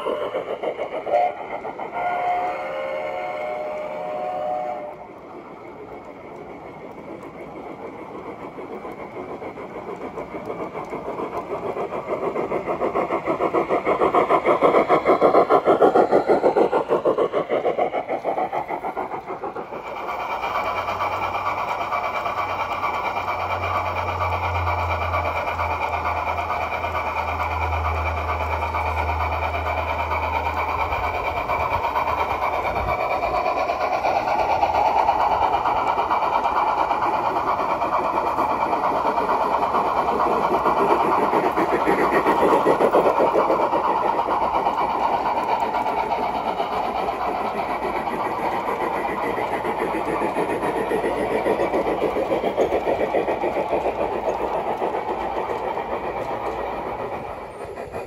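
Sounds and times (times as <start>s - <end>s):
metal wheels rattling on rail: 0.0s - 58.0s.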